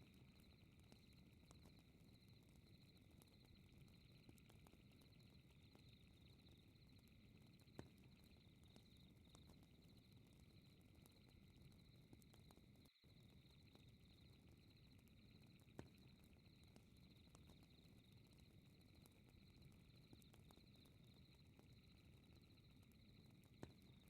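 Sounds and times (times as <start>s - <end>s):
fireplace crackling and popping: 0.0s - 24.0s
low rumble of fire: 0.0s - 24.0s.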